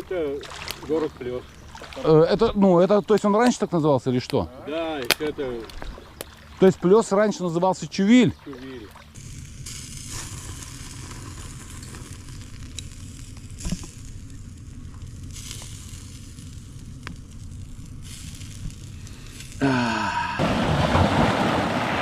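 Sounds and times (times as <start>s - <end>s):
campfire pops: 0.0s - 7.5s, 8.4s - 22.0s
campfire sizzling hiss: 0.0s - 22.0s.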